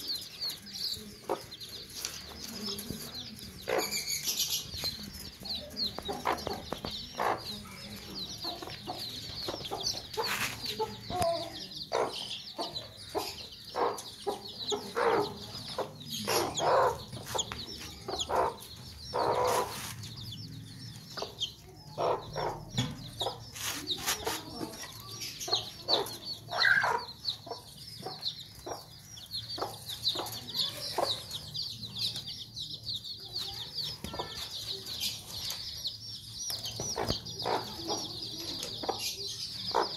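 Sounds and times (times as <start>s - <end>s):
chicks peeping: 0.0s - 39.9s
hen clucking: 1.0s - 32.2s, 36.7s - 39.9s.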